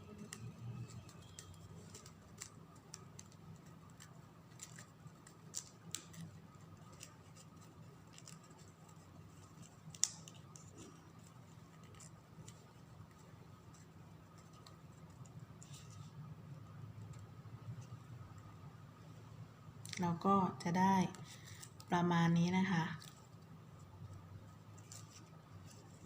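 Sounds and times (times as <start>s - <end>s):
ribbon rustling and clicking: 0.0s - 18.5s, 21.0s - 26.0s
steady low hum: 0.0s - 26.0s.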